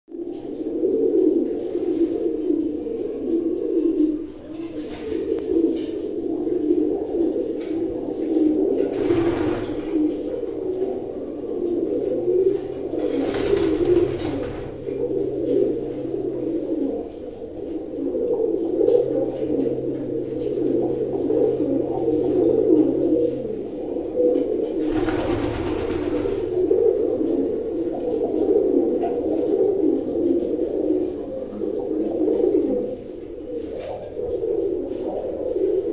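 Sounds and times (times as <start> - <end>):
pigeons cooing: 0.1 - 35.9.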